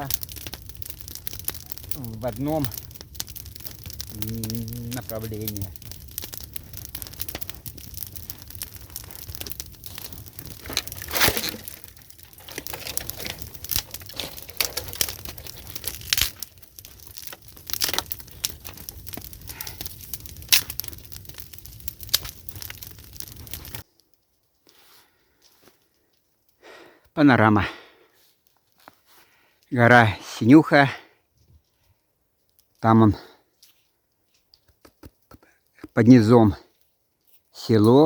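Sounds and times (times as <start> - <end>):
campfire crackling and popping: 0.0 - 30.4, 31.1 - 38.0.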